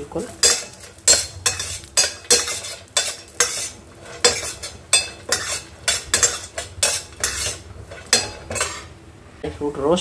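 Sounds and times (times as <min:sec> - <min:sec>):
steel spoon scraping frying pan: 0:00.3 - 0:09.0.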